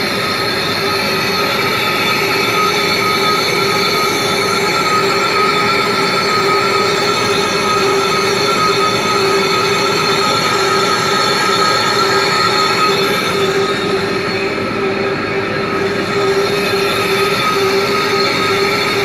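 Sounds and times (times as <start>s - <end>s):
lathe cutting metal whine: 0.0s - 19.0s.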